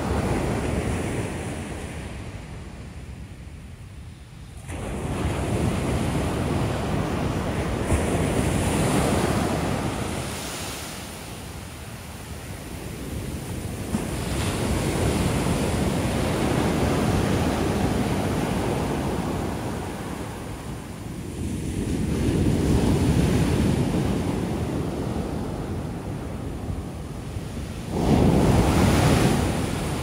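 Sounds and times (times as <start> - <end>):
waves breaking on beach: 4.4 - 30.0.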